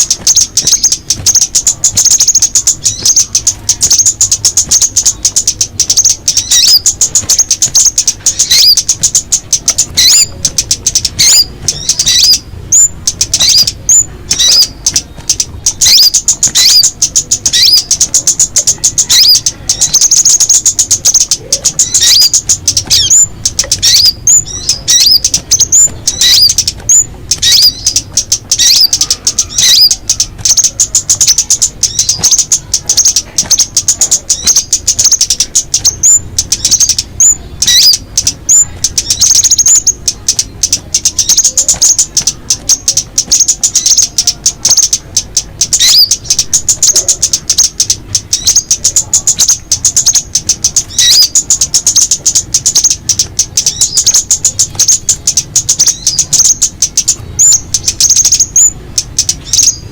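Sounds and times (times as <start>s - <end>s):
songbirds chattering: 0.0s - 59.9s
swooping bird calls: 0.0s - 59.9s.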